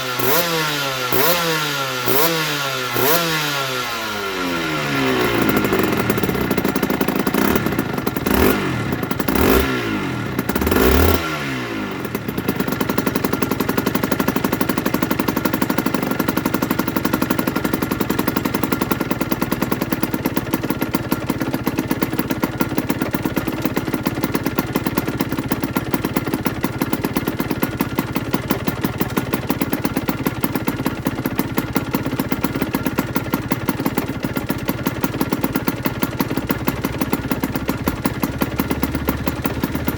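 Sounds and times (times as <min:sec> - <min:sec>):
two-stroke engine revving and idling: 0:00.0 - 0:39.9.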